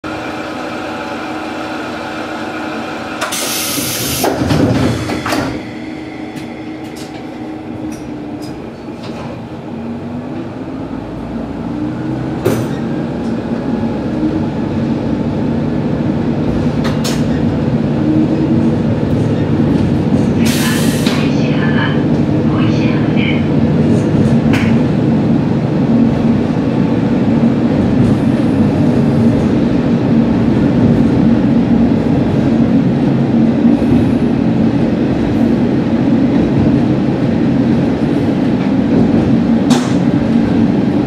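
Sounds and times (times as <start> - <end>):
diesel railcar engine: 0.0 - 41.0.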